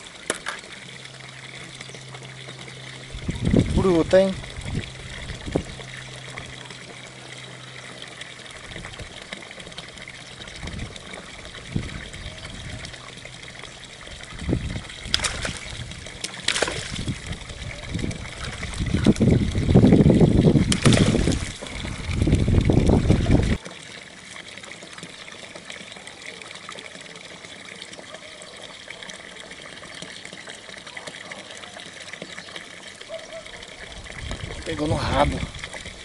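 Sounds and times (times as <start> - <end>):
fish splashing in water: 4.1 - 34.2.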